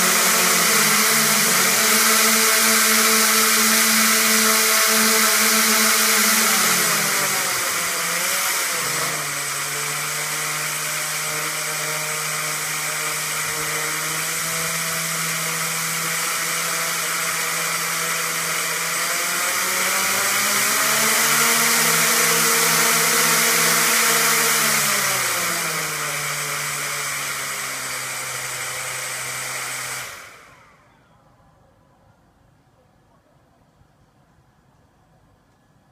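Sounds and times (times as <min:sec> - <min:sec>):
drone motors whining: 0:00.0 - 0:30.9.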